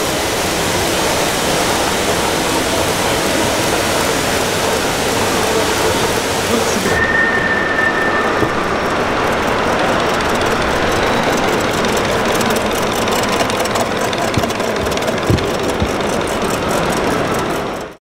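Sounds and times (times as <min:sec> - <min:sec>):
steam hissing: 0:00.0 - 0:17.8
steam engine exhaust beats: 0:00.0 - 0:18.0.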